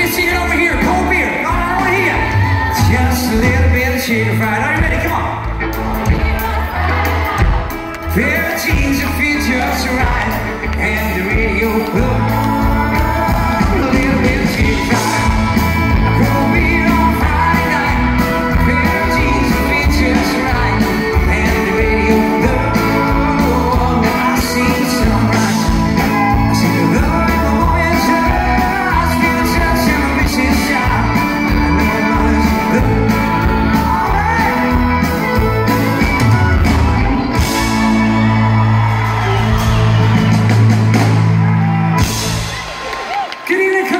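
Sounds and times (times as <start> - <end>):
man singing: 0.0 - 6.9, 8.0 - 37.8
country rock band playing: 0.0 - 43.9.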